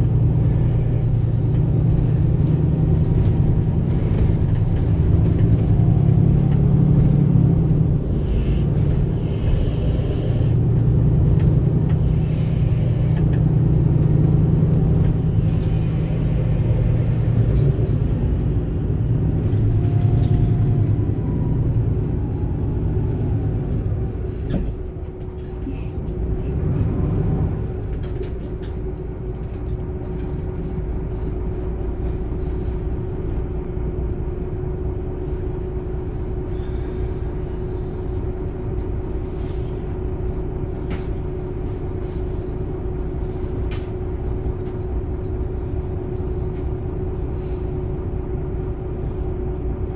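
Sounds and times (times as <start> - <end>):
bus engine rumble on board: 0.0 - 49.9.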